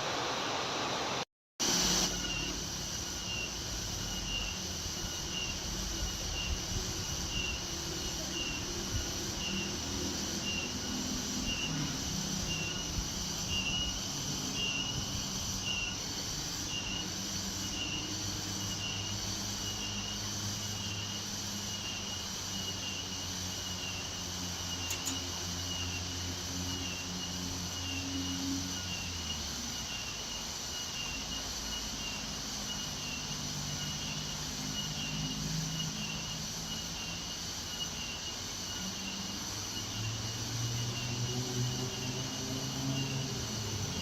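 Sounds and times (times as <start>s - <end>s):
insect chirping: 1.6s - 44.0s.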